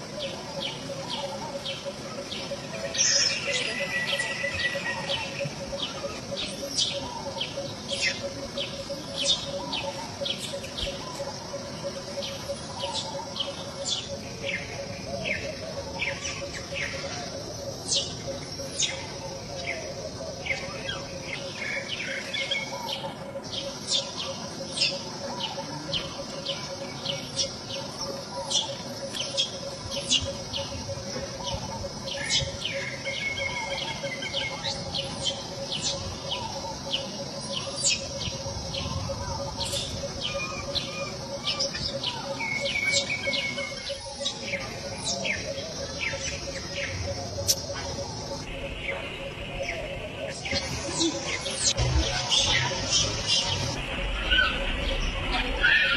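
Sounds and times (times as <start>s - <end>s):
birds chirping: 0.0s - 55.9s
steady low hum: 0.0s - 55.9s.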